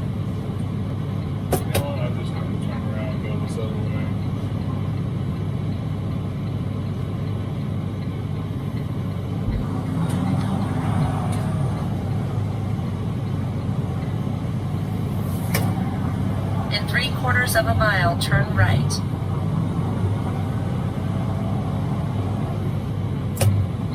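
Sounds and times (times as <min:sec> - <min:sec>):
truck diesel engine rumble: 0:00.0 - 0:23.9.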